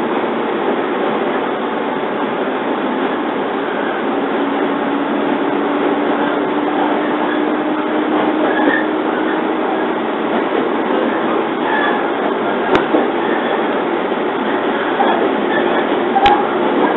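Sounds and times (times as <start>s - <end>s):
train wheels rumbling: 0.0s - 16.9s.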